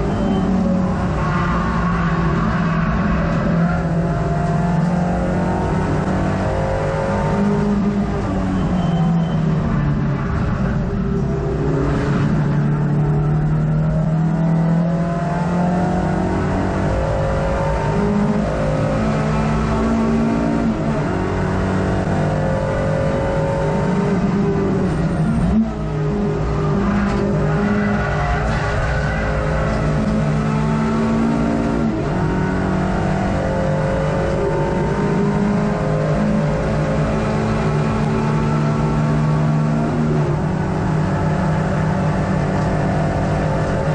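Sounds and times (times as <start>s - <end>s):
car engine under load: 0.0s - 43.9s.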